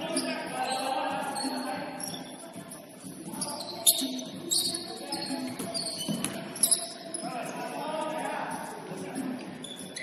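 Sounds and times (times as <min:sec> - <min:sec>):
players' voices in hall: 0:00.0 - 0:10.0.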